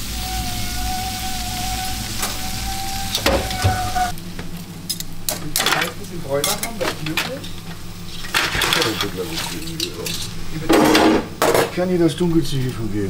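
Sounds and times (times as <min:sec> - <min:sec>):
food frying sizzle: 0:00.0 - 0:11.4.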